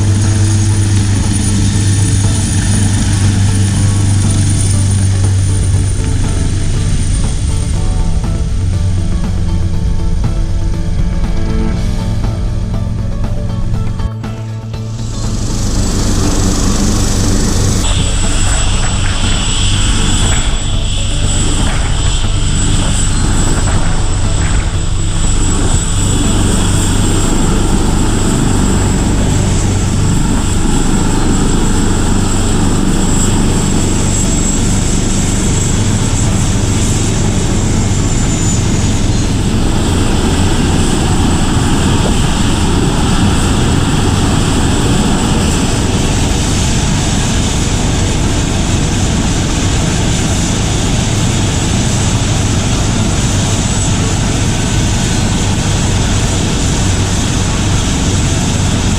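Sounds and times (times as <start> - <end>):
aircraft engine running: 0.0 - 58.9.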